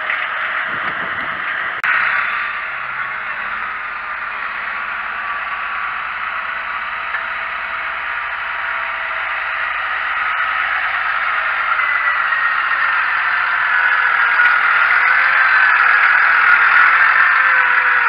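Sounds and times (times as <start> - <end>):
tractor engine with faint whine: 0.0 - 18.0.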